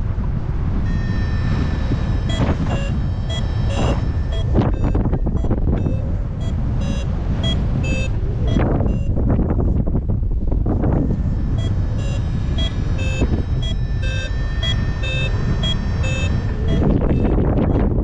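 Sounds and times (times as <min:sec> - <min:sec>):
wind on microphone: 0:00.0 - 0:18.0
variometer beeping: 0:00.8 - 0:09.5, 0:10.7 - 0:18.0.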